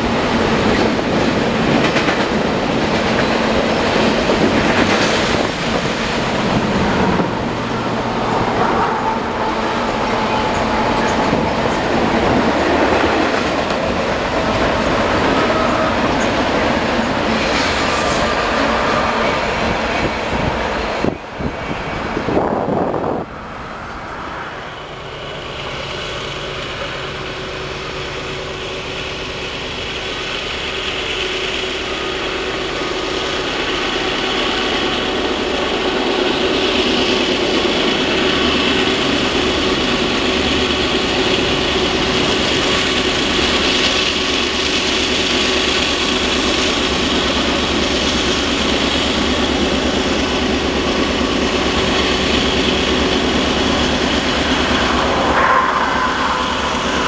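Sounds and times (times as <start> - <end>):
train wheels clattering on rails: 0.0 - 22.9, 25.2 - 57.0
diesel locomotives chugging: 0.0 - 57.0.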